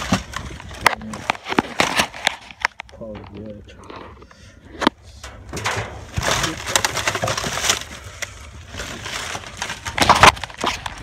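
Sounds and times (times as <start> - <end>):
plastic bags rustling: 0.0 - 3.6, 5.3 - 11.0
loud crunch: 0.0 - 11.0.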